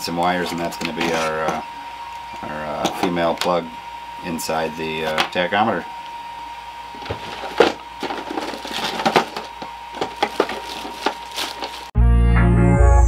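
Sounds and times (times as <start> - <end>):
faint high whine: 0.0 - 11.9.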